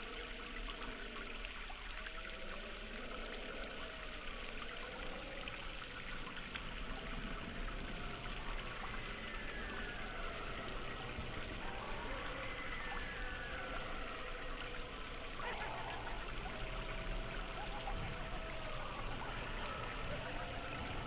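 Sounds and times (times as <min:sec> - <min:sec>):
faint gliding tones: 0:00.0 - 0:21.0
rushing trickling water: 0:00.0 - 0:21.0.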